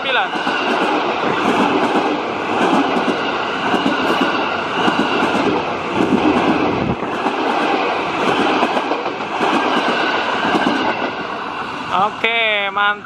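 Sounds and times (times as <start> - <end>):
train wheels clattering: 0.0 - 11.5
train low rumble: 0.0 - 13.0.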